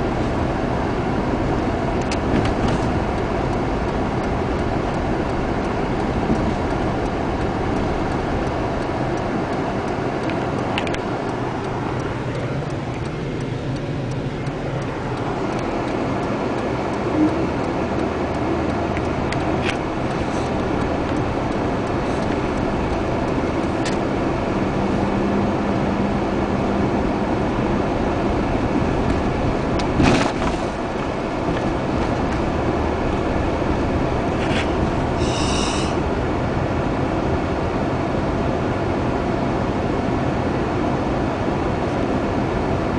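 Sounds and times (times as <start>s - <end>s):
car road and engine noise: 0.0s - 42.9s.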